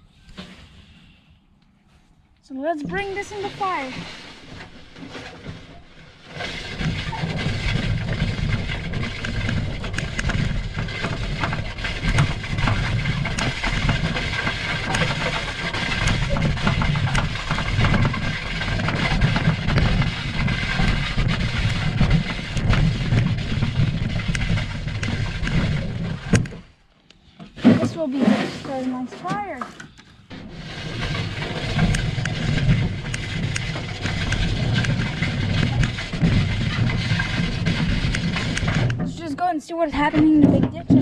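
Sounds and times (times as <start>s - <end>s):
wheelbarrow rolling on lawn: 2.5s - 41.0s
branches rattling and knocking: 2.6s - 41.0s.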